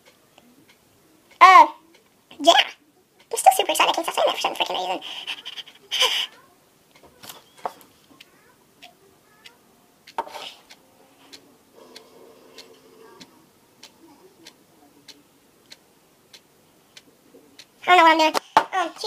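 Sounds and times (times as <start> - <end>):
clock ticking: 0.0 - 19.0.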